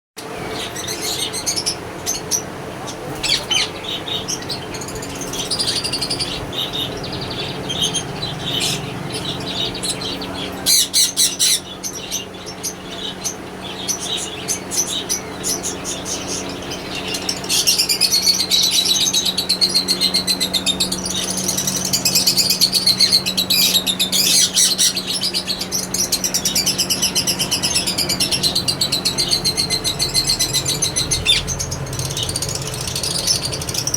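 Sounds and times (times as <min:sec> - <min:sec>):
parakeets chirping and chattering: 0:00.2 - 0:33.9
steady low hum: 0:00.2 - 0:33.9.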